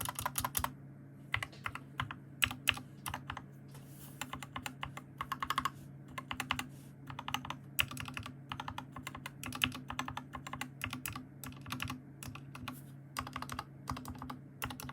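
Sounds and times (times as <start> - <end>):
mechanical keyboard typing: 0.0 - 0.7, 1.3 - 3.4, 4.2 - 14.9.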